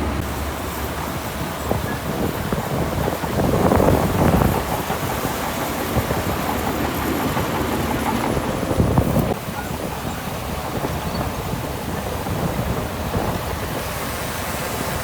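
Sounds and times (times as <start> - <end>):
machinery rattling and clattering: 0.0 - 13.7
heavy diesel machinery rumbling: 0.0 - 15.0.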